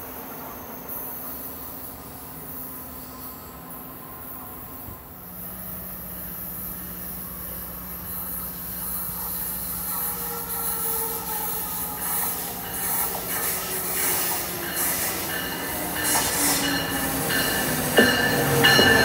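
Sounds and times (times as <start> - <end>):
train wheels hissing on rail: 0.0 - 19.0.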